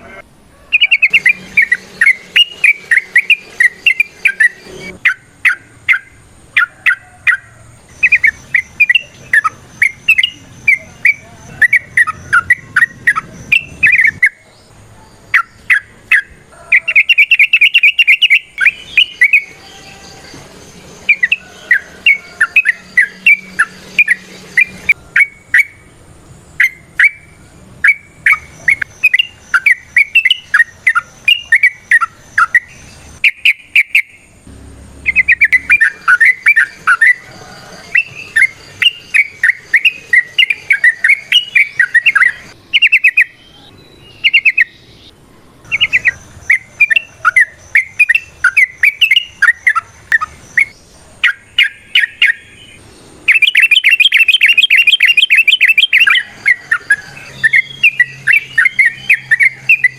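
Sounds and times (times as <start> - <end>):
bird singing chattering phrases: 0.0 - 59.9.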